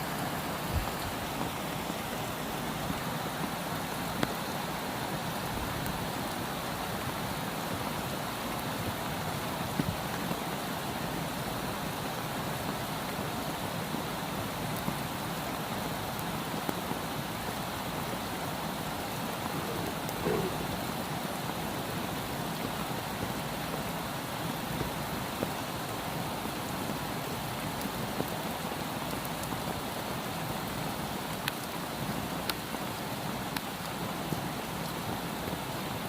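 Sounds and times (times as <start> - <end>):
soft rain hissing: 0.0 - 36.0.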